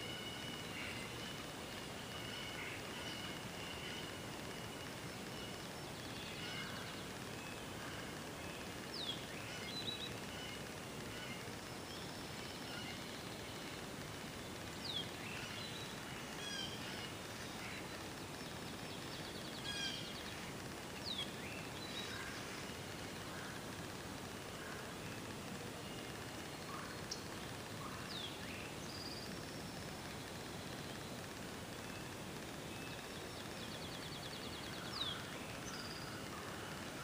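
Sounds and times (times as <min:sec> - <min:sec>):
birds singing and calling: 0:00.0 - 0:23.9, 0:24.5 - 0:37.0
steady background hiss: 0:00.0 - 0:37.0.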